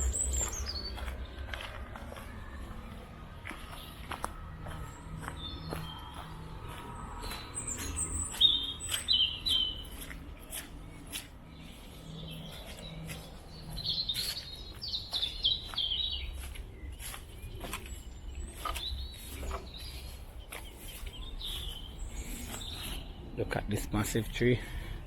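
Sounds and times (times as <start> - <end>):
footsteps crunching: 0.0 - 24.2
small birds chirping: 0.0 - 25.0.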